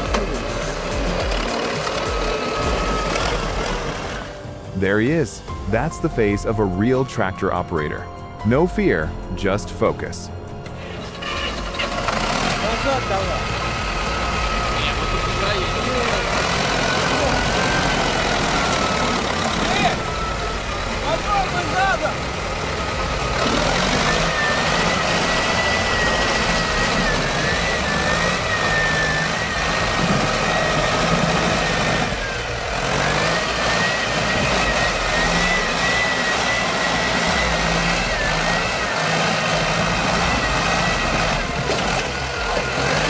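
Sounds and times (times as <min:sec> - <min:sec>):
high wavering whine: 0:00.0 - 0:43.0
tractor engine running: 0:00.0 - 0:43.0.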